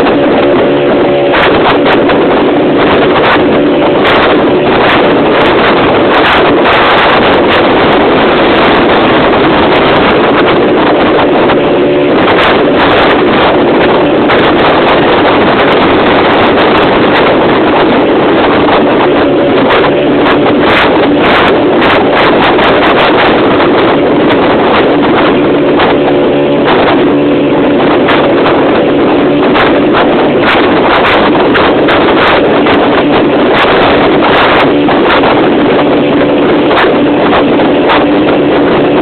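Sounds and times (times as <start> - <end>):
boat engine droning: 0.0 - 39.0
wind buffeting microphone: 0.0 - 39.0.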